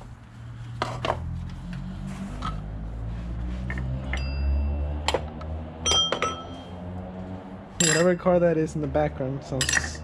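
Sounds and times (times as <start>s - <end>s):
car engine rumbling: 0.0s - 9.4s.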